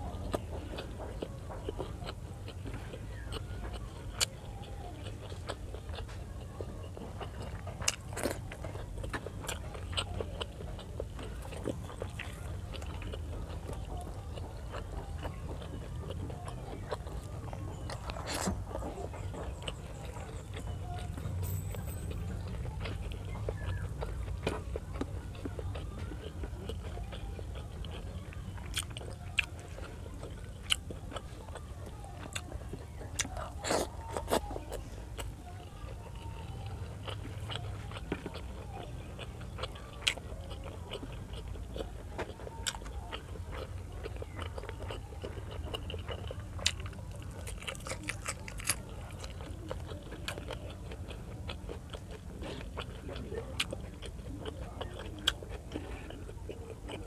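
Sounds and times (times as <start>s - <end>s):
person chewing wetly: 0.0s - 57.0s.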